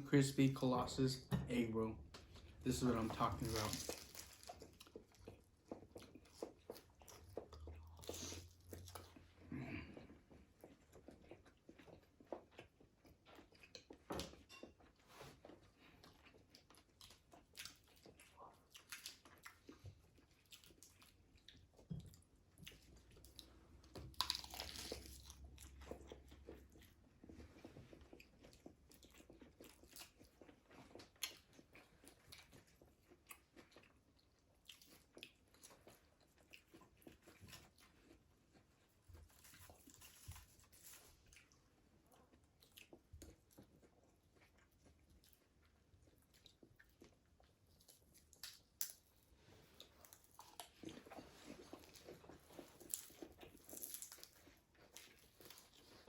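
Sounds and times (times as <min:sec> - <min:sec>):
crunchy chewing: 0:02.3 - 0:56.0.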